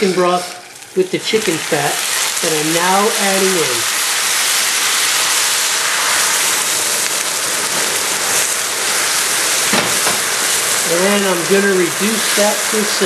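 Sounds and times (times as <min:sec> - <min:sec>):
broth sizzling in a skillet: 0:00.0 - 0:13.0.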